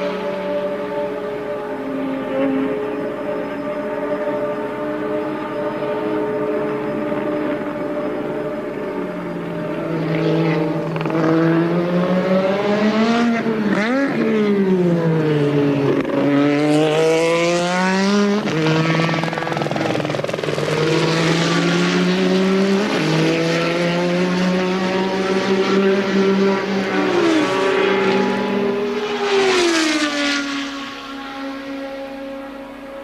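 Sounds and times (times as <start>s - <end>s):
racing car engine at high revs: 0.0s - 33.0s.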